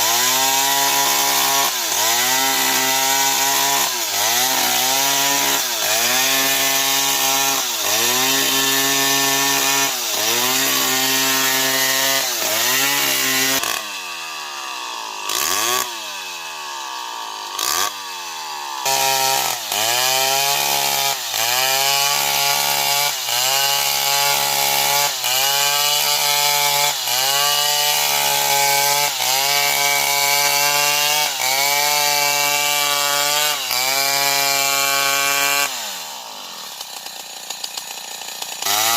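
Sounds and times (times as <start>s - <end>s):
chainsaw cutting into tree: 0.0s - 38.9s.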